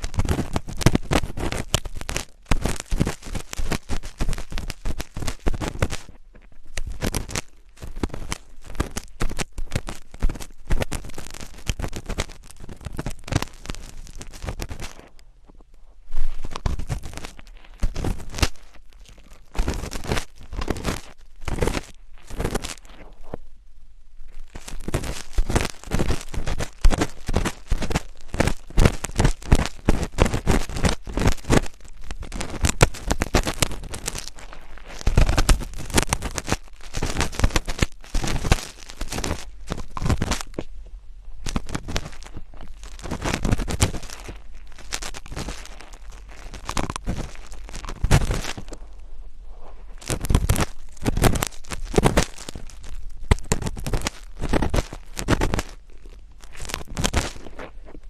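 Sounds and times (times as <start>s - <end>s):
close scratching and crackling: 0.0s - 58.0s.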